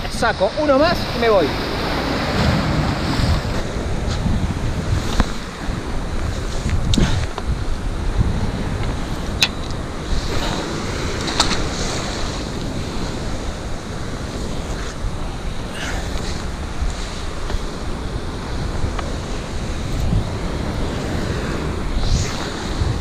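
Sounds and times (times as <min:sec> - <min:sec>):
sea surf on rocks: 0:00.0 - 0:23.0
wind buffeting microphone: 0:00.0 - 0:23.0.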